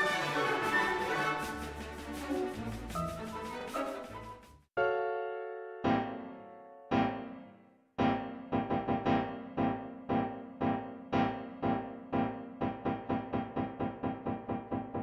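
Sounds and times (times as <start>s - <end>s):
piano-like keyboard music: 0.0s - 15.0s.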